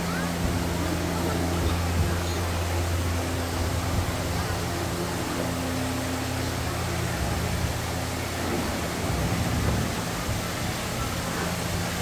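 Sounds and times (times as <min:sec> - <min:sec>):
low droning hum: 0:00.0 - 0:12.0
rushing water: 0:00.0 - 0:12.0.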